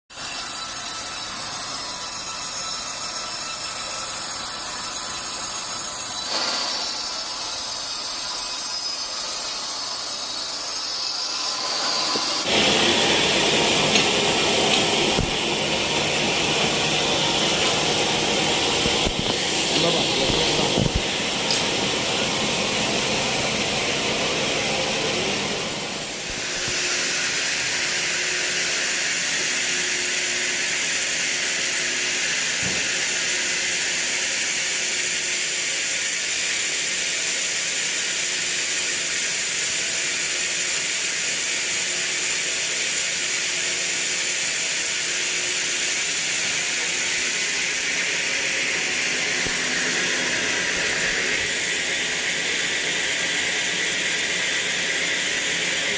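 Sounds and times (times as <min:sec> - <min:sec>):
saw cutting timber: 0:00.1 - 0:55.9.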